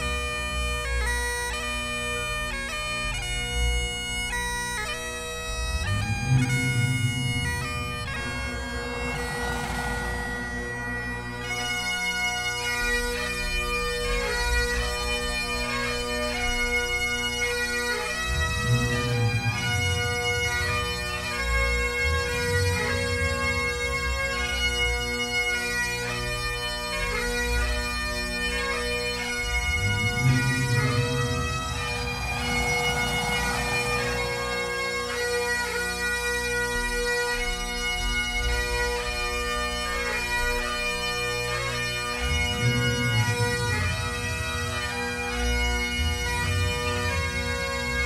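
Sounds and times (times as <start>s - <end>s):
bagpipe band playing slow tune: 0.0s - 48.0s
bagpipe drones: 0.0s - 48.0s
low rumbles: 0.2s - 38.3s, 38.9s - 48.0s.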